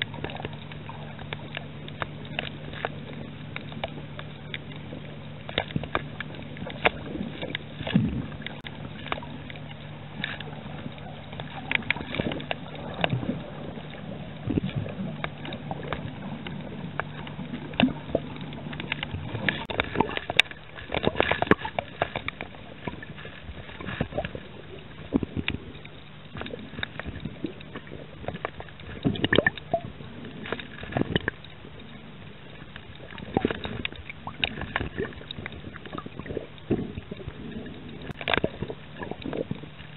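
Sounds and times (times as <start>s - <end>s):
clicks and crackles: 0.0s - 39.9s
low steady hum: 0.0s - 39.9s
muffled underwater sloshing: 0.0s - 39.9s.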